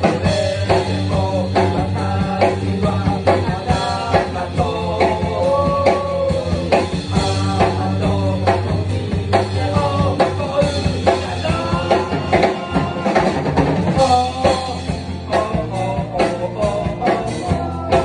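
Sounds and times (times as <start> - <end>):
bass guitar: 0.0 - 18.0
drum kit: 0.0 - 18.0
electric guitar: 0.0 - 18.0
person singing: 0.0 - 18.0.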